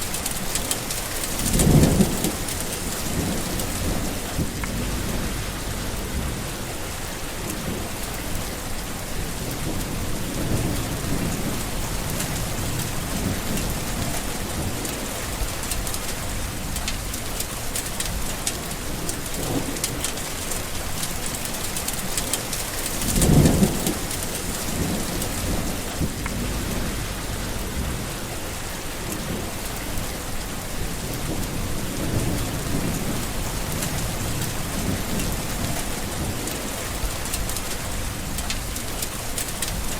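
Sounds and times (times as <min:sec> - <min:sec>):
heavy rain falling: 0:00.0 - 0:39.9
rolling thunder: 0:01.2 - 0:17.2, 0:22.8 - 0:39.0.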